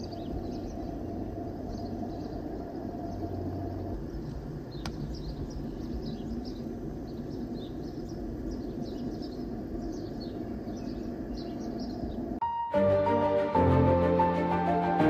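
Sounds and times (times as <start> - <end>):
small birds chirping: 0.0 - 12.4
low outdoor rumble: 0.0 - 15.0.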